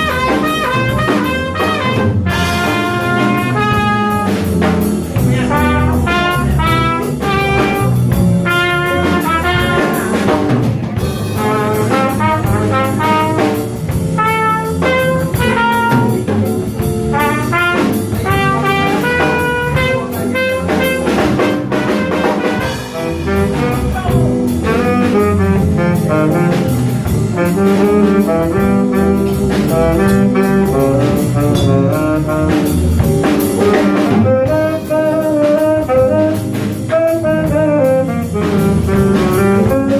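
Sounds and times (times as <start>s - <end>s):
cymbals: 0.0s - 39.9s
horn playing quick melodic lines: 0.0s - 39.9s
live jazz band playing: 0.0s - 39.9s.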